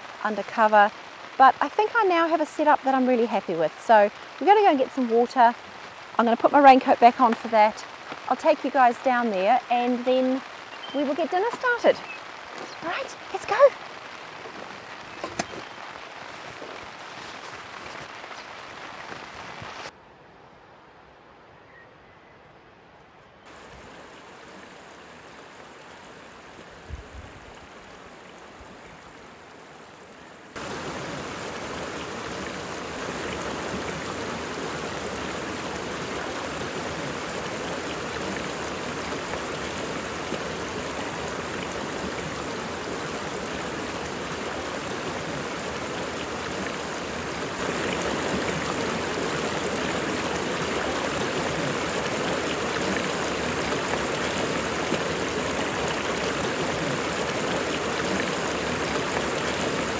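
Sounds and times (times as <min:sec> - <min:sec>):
rain falling: 0:00.0 - 0:19.9, 0:23.5 - 0:59.9
river rushing: 0:00.0 - 0:20.0, 0:23.5 - 0:59.9.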